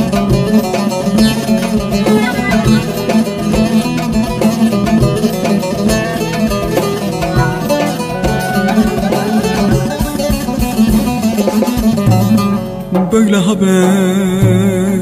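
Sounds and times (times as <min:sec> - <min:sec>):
plucked-string melody over beat: 0:00.0 - 0:15.0.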